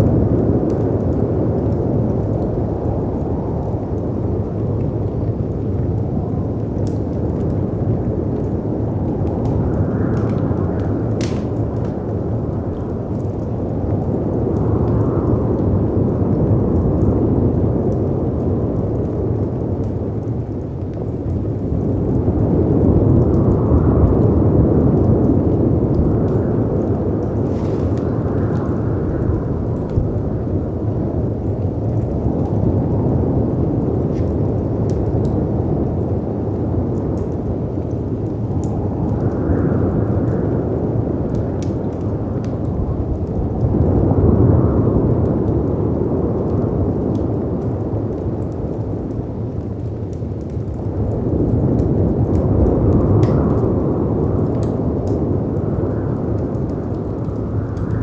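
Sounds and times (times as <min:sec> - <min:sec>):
wind: 0:00.0 - 0:58.0
wood fire crackling and popping: 0:00.0 - 0:58.0.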